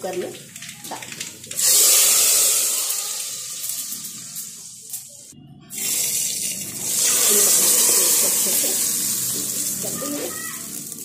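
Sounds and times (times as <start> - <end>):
hot oil sizzling: 0.0 - 11.0.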